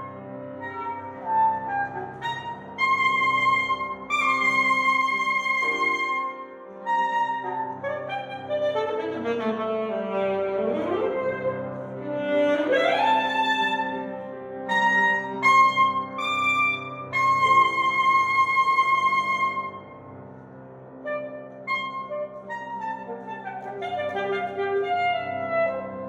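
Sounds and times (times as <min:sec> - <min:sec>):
piano playing: 0:00.0 - 0:26.0
saxophone playing: 0:00.6 - 0:14.0, 0:14.7 - 0:19.9, 0:21.1 - 0:26.0.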